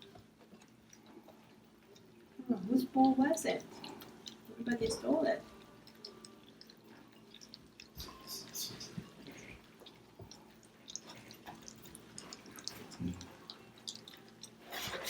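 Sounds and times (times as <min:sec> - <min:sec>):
puppies lapping from bowls: 0:00.0 - 0:15.0.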